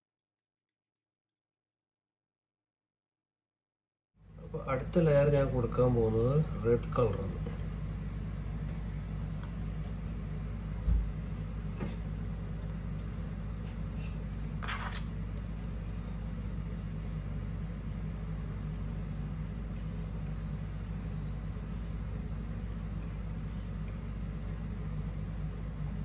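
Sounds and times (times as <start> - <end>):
steady low hum: 4.2 - 26.0.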